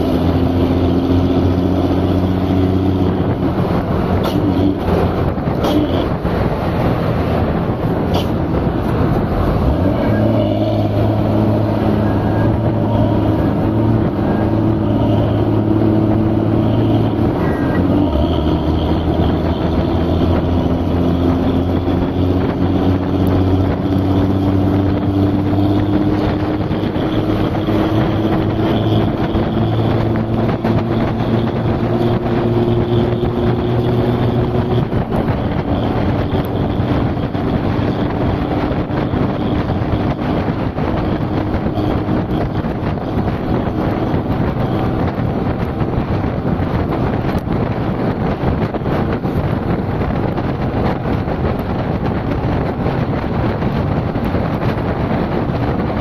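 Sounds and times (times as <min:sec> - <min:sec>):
continuous rushing noise: 0:00.0 - 0:56.0
engine running: 0:00.0 - 0:56.0.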